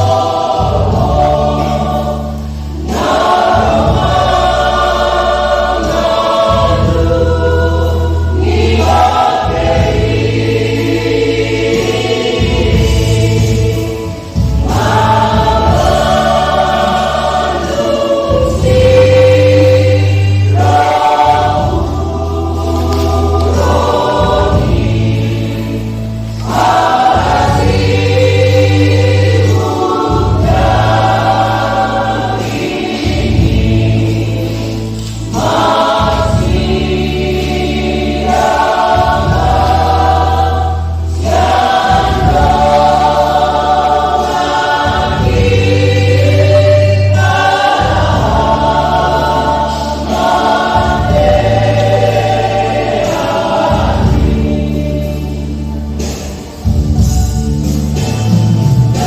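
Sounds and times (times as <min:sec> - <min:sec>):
church choir singing a hymn: 0:00.0 - 0:59.0
sustained low bass notes: 0:00.0 - 0:59.0.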